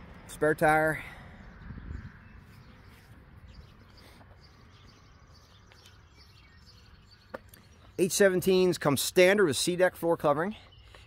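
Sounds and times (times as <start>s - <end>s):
distant birds chirping: 0.0s - 11.0s.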